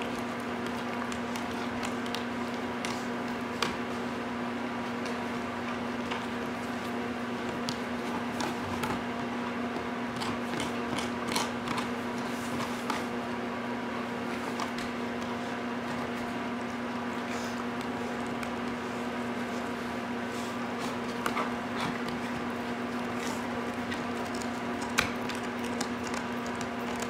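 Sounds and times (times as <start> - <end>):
puppy gnawing a rawhide bone: 0.0 - 27.0
steady low hum: 0.0 - 27.0.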